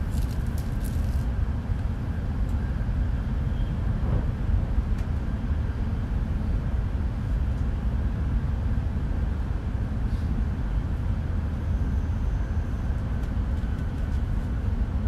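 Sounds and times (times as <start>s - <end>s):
train rumble inside cabin: 0.0s - 15.0s.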